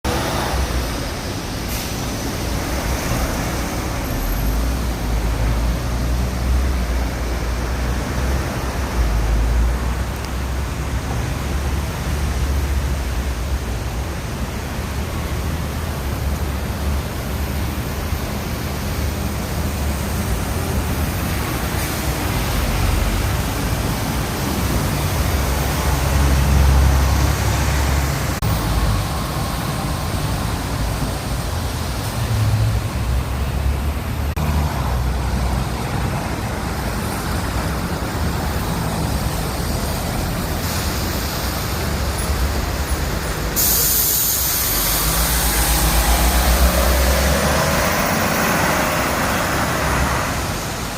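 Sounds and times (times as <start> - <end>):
traffic rumble: 0.0 - 50.9
heavy rain on street: 0.1 - 50.9.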